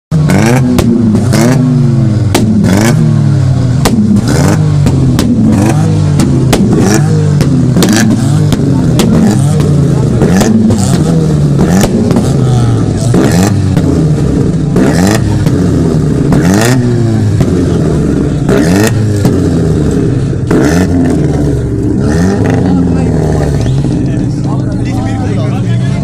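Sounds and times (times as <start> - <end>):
car engine revving: 0.1 - 26.0
exhaust bangs: 0.1 - 26.0.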